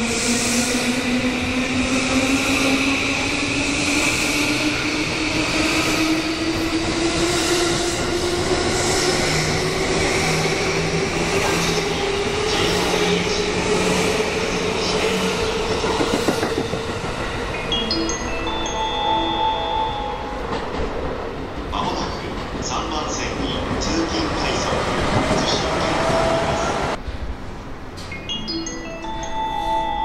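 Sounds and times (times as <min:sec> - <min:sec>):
train cars rumbling and clattering: 0:00.0 - 0:18.8, 0:20.0 - 0:28.2.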